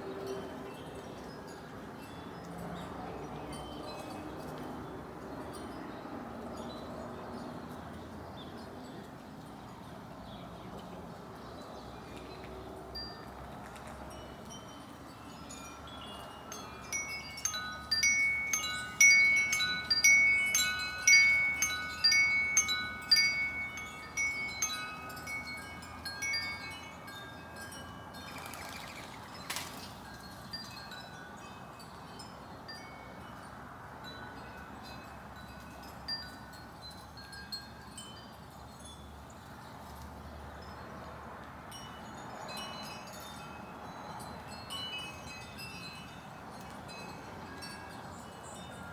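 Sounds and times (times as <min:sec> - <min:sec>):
wind chimes ringing: 0:00.1 - 0:10.3, 0:12.9 - 0:41.1, 0:41.7 - 0:48.9.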